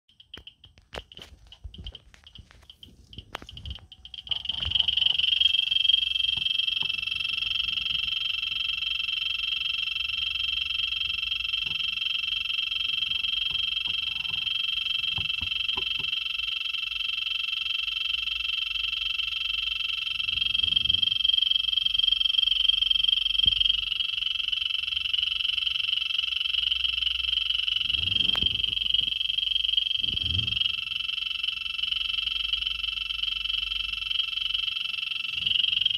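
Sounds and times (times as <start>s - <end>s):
geiger counter clicks and buzz: 0.1s - 35.9s.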